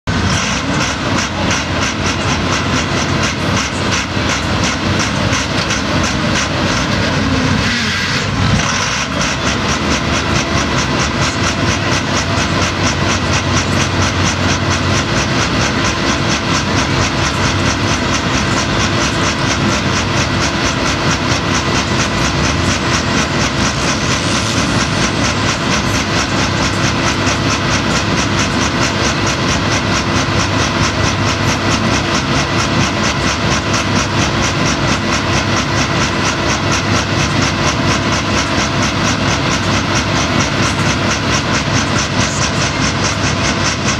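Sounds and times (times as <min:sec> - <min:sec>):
tractor engine running loud: 0:00.0 - 0:43.9.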